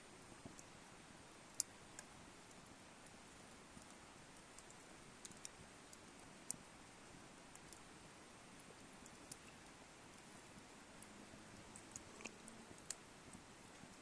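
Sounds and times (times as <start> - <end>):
low hiss: 0.0 - 14.0
wood fire crackling: 0.0 - 14.0.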